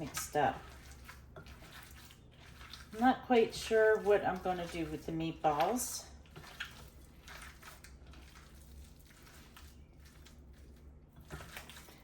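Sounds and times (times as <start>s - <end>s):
hands squishing meat mixture: 0.0s - 12.0s
low steady hum: 0.0s - 12.0s.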